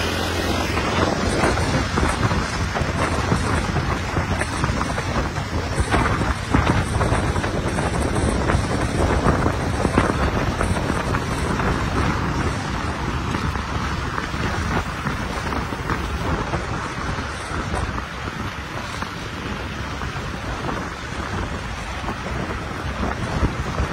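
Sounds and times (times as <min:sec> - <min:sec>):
road noise: 0:00.0 - 0:23.9
wind buffeting microphone: 0:00.0 - 0:23.9.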